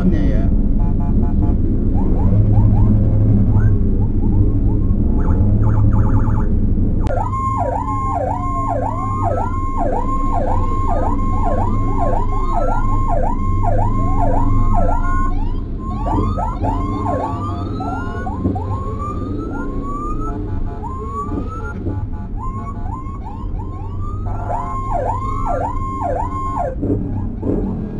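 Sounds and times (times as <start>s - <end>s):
sirens with rising sweeps: 0.0s - 27.9s
vehicle drone: 0.0s - 27.9s
electronic siren yelping: 0.8s - 27.9s.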